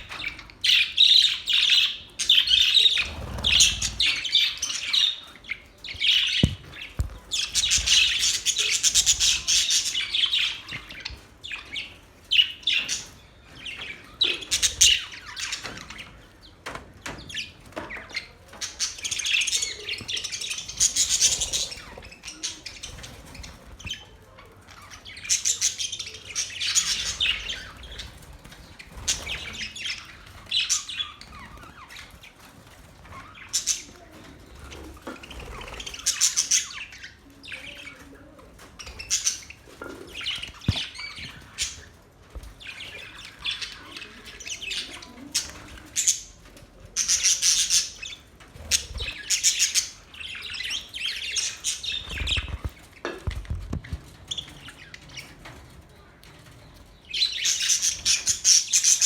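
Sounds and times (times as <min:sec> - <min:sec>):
budgerigars chirping and warbling: 0:00.0 - 0:55.6, 0:56.3 - 0:59.0.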